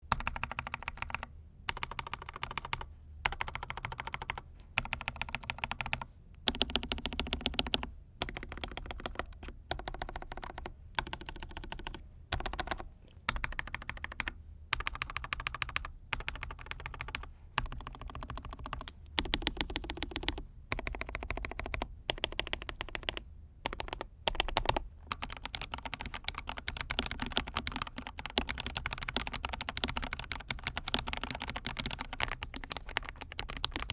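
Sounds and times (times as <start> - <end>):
mechanical keyboard typing: 0.1 - 33.9.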